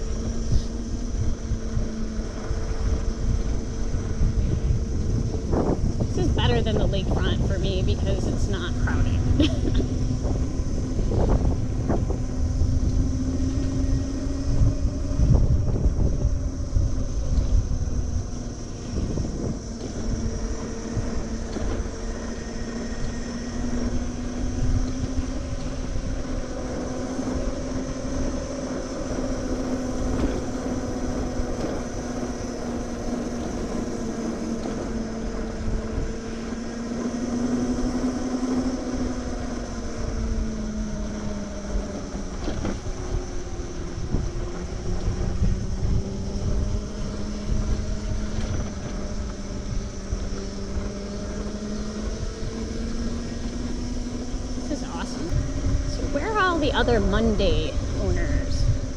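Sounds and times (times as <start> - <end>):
electric motor hum: 0.0 - 58.9
road rumble: 0.0 - 58.9
wind rushing over microphone: 0.0 - 58.9.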